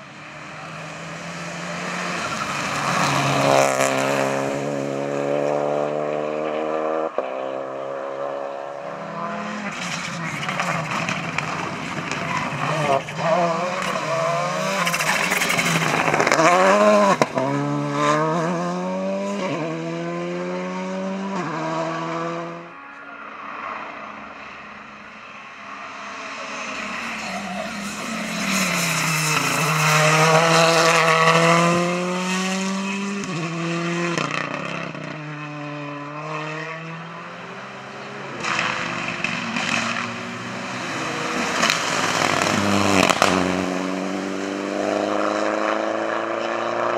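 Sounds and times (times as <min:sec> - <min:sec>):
rally car engines accelerating: 0:00.1 - 0:22.7, 0:26.3 - 0:46.9.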